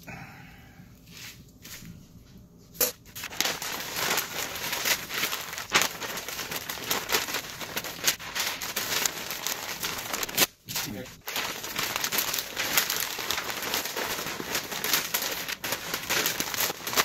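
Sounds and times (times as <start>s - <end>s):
paper crinkling: 3.1s - 17.0s.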